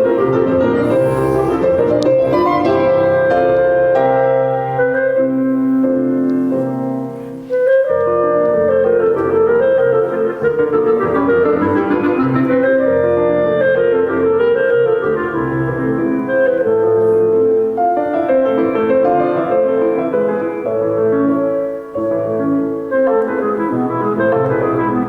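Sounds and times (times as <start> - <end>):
classical piano and woodwind music: 0.0 - 25.0.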